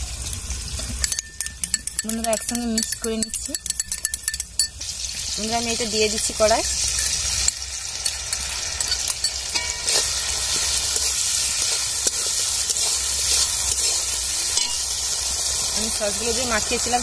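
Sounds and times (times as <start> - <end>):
vegetables sizzling in hot oil: 0.0 - 17.0
metal spatula scraping wok: 0.8 - 17.0.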